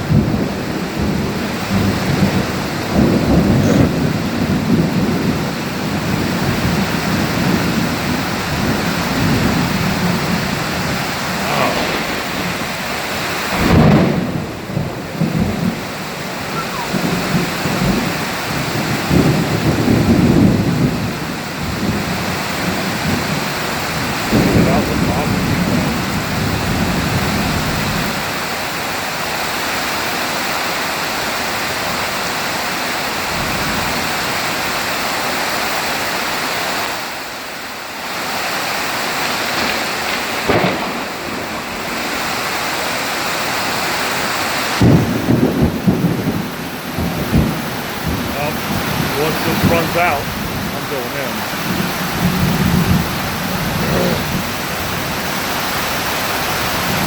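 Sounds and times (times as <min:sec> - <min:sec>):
thunder rumbling: 0:00.0 - 0:29.7, 0:36.8 - 0:57.0
heavy rain pouring: 0:00.0 - 0:57.0.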